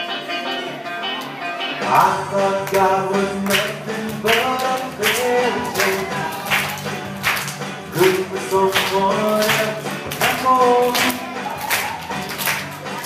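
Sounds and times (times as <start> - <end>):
upbeat music: 0.0 - 13.0.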